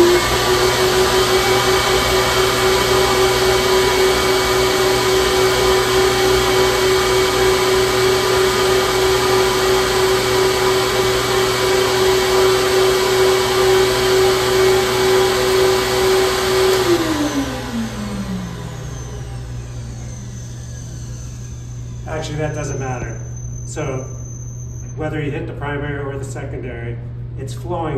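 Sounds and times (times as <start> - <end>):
vacuum pump whining: 0.0 - 27.4.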